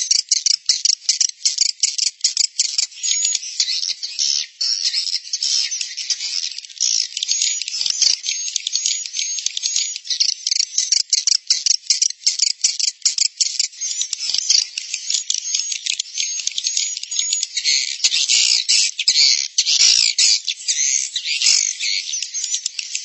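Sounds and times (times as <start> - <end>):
swiftlet colony twittering: 2.9 - 11.6, 12.2 - 23.0.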